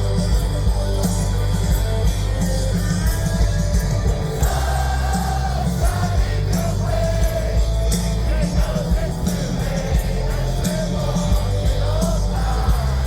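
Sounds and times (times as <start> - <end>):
loud live rock music: 0.0 - 13.0.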